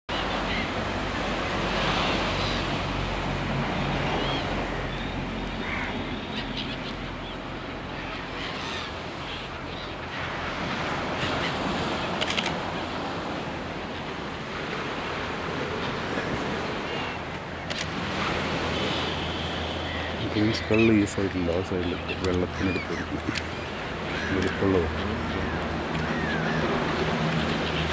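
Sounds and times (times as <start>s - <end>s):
ocean surf breaking: 0.1s - 27.9s.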